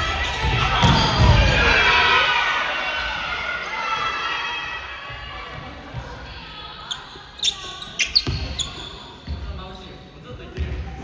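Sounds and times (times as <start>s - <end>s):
crowd voices echoing in hall: 0.0s - 11.0s.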